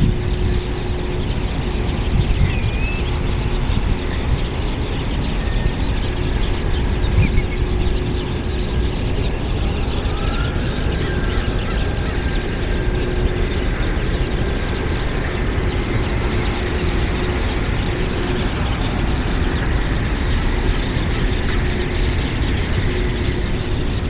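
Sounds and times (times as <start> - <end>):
distant engine rumble: 0.0 - 24.0
faint hum: 0.0 - 24.0.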